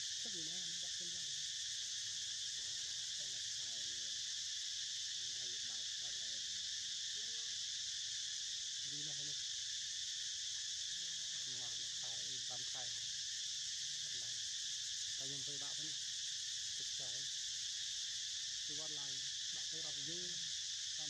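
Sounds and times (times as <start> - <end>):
high insect chorus: 0.0 - 21.0.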